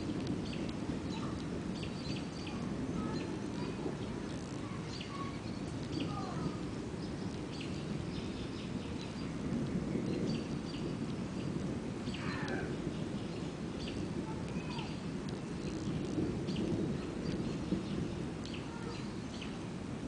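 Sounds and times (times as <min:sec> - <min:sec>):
distant thunder rumbling: 0:00.0 - 0:20.0
birds chirping: 0:00.1 - 0:19.7.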